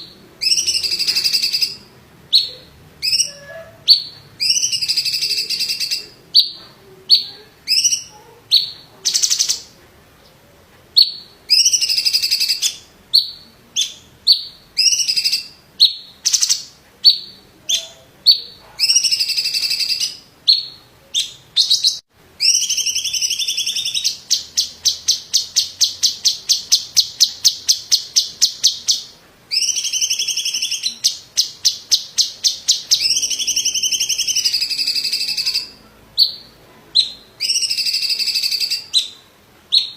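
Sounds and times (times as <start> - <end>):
bird singing whistled phrases: 0.4 - 9.6, 11.0 - 39.9.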